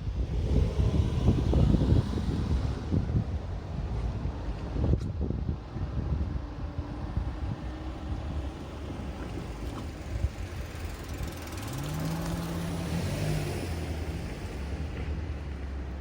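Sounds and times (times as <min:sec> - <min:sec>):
passing vehicle engine: 0:00.0 - 0:04.8, 0:07.0 - 0:16.0.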